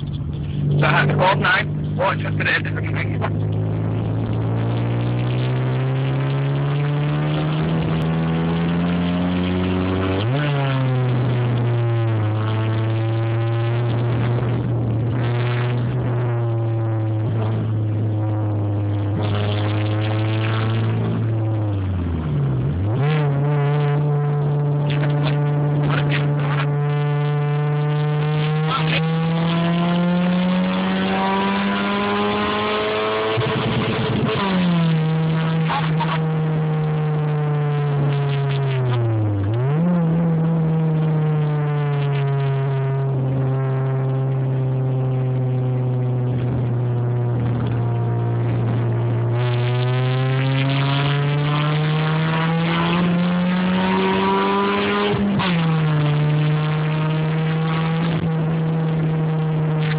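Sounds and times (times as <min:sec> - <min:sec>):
car engine with loud exhaust: 0:00.0 - 0:59.9.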